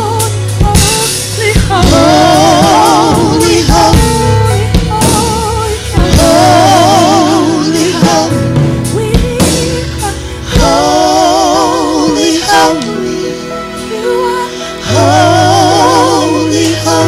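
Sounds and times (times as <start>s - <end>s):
low bass: 0.0s - 14.1s
drums: 0.0s - 14.2s, 14.8s - 17.0s
gospel choir singing: 0.0s - 17.0s.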